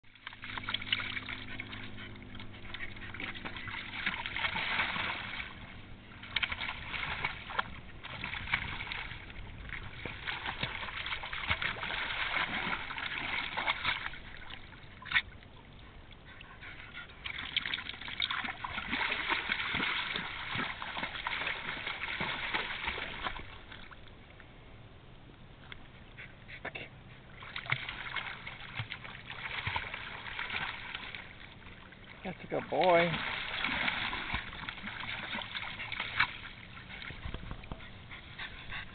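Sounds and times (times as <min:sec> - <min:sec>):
dog splashing through water: 0:00.1 - 0:24.0, 0:27.2 - 0:38.9.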